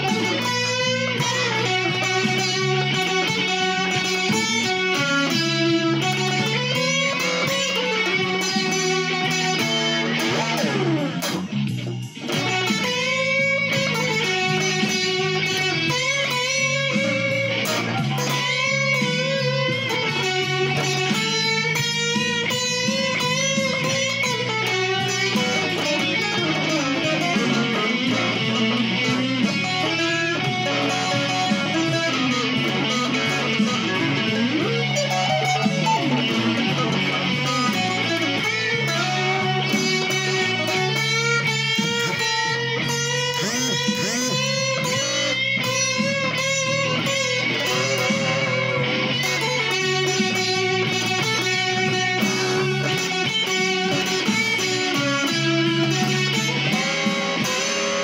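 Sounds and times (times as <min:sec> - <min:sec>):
electric guitar blues lead: 0:00.0 - 0:58.0.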